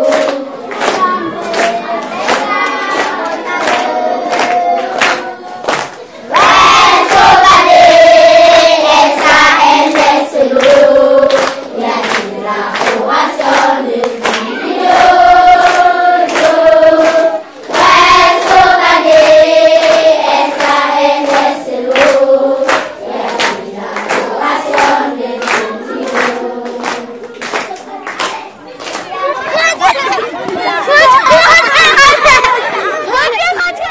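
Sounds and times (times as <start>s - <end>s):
children singing: 0.0s - 28.6s
handclaps keeping the beat: 0.0s - 30.6s, 32.1s - 32.8s.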